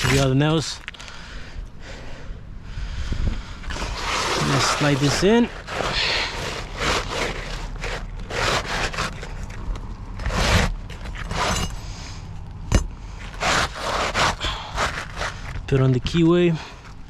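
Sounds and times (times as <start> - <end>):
shingle scraping: 0.0 - 1.1, 3.6 - 17.0.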